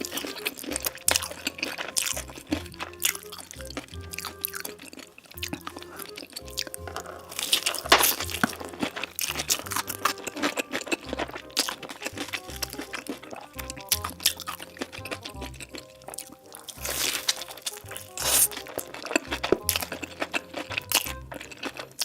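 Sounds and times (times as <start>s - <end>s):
background music with low beat: 0.0s - 22.0s
crunchy chewing of food: 0.0s - 22.0s.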